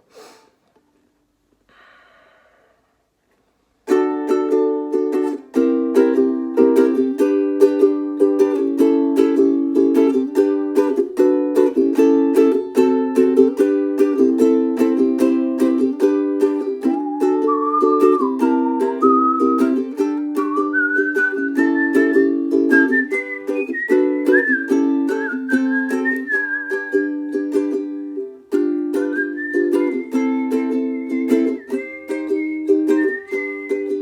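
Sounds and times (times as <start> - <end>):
ukulele strummed: 3.8 - 34.0.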